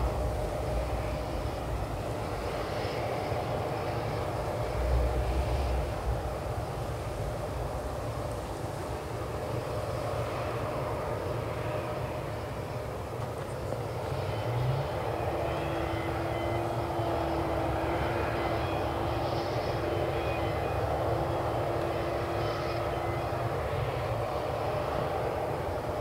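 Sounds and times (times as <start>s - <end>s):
jet airliner low rumble: 0.0s - 26.0s
mechanical hum: 0.0s - 26.0s.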